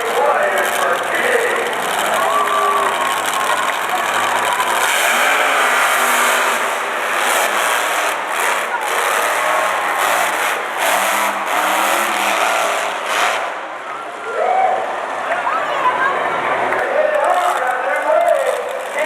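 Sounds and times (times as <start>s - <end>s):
monster truck engine running: 0.0s - 14.2s, 16.8s - 19.0s
crowd voices: 0.0s - 19.0s.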